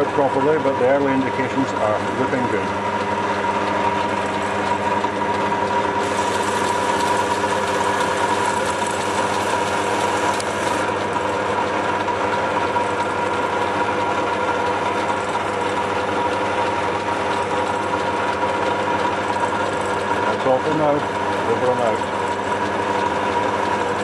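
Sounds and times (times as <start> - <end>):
drill press humming and whining: 0.0 - 24.0.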